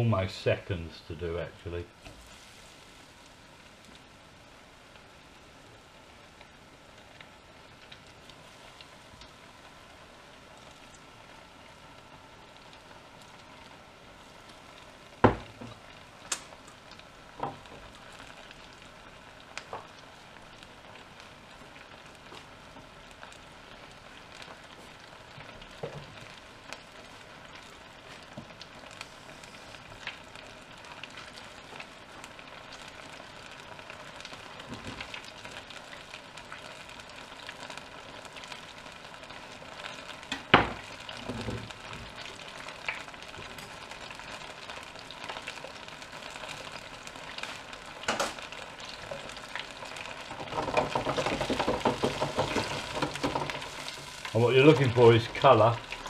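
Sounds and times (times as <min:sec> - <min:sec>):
deep fryer sizzling and popping: 0:00.0 - 0:56.0.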